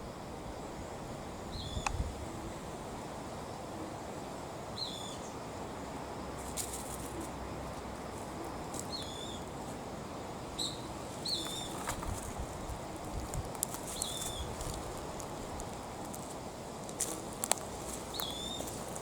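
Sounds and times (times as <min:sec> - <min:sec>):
low outdoor background noise: 0:00.0 - 0:19.0.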